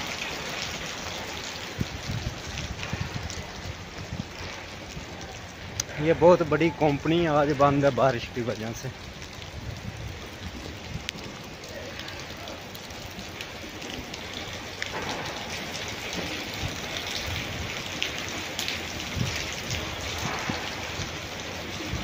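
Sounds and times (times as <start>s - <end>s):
rain on wet pavement: 0.0s - 22.0s.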